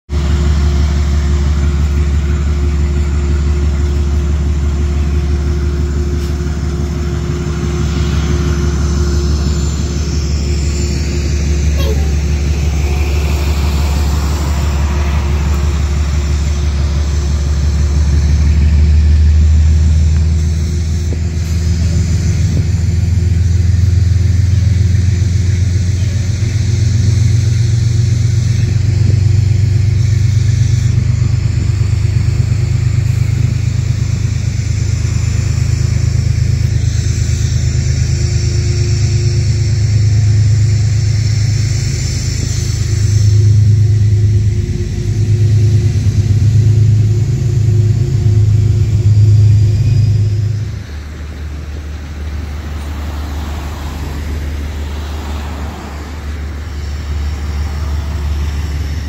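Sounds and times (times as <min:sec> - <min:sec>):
diesel bus engine rumbling: 0:00.0 - 0:59.0.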